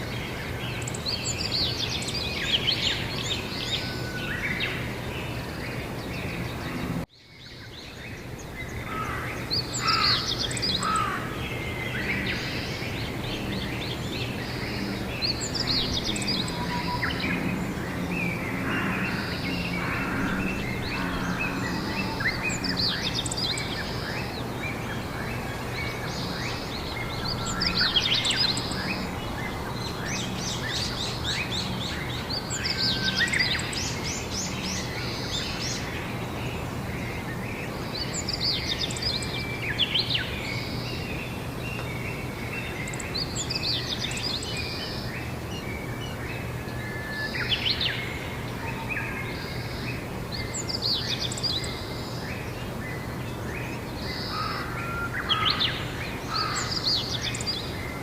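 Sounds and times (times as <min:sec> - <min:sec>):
background hiss: 0:00.0 - 0:58.0
songbirds chirping: 0:00.0 - 0:58.0.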